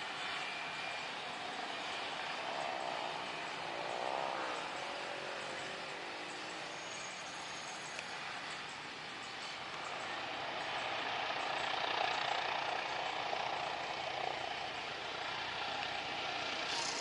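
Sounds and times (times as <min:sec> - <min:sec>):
aircraft engine running: 0:00.0 - 0:17.0.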